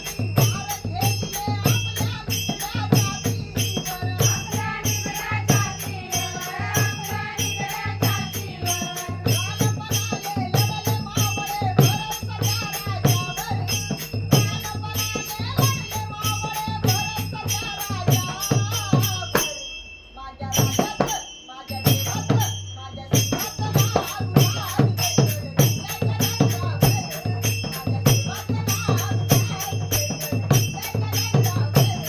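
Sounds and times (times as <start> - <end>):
steady drum beat: 0.0 - 19.6, 20.6 - 32.0.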